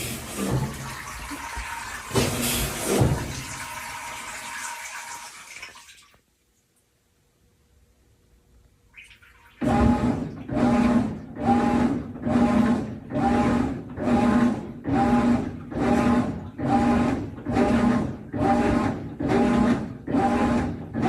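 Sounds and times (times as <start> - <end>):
washing machine agitating: 0.0 - 6.2, 8.9 - 21.0.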